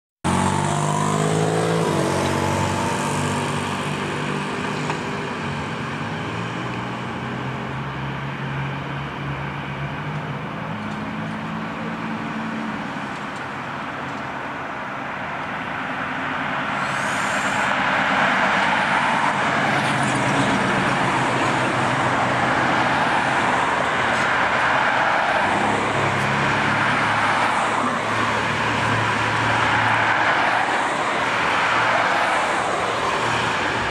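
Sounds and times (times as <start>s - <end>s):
road traffic rushing: 0.2s - 33.9s.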